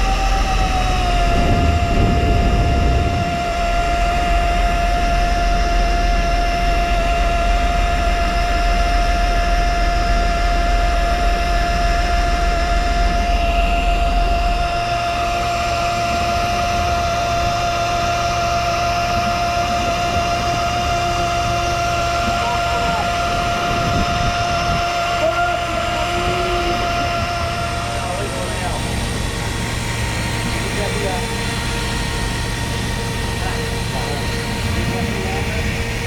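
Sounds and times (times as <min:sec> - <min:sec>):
boat engine rumbling: 0:00.0 - 0:36.0
high engine whine: 0:00.0 - 0:36.0.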